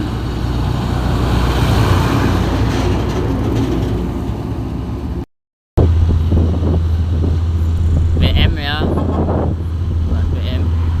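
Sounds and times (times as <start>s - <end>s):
road noise: 0.0s - 11.0s
truck engine under load: 0.0s - 11.0s.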